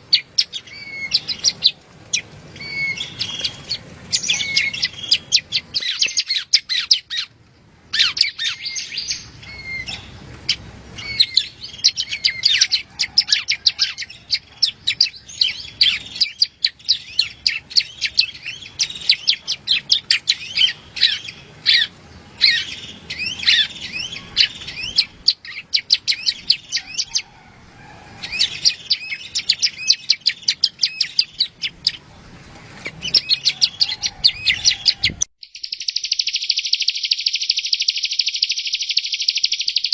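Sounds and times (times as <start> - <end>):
bird singing rapid chirps and trills: 0.0 - 27.3, 28.2 - 32.2, 32.8 - 39.9.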